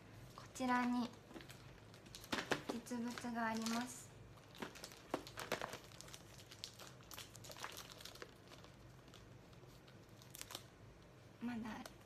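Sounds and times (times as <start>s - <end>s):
packaging rustling: 0.7s - 10.7s.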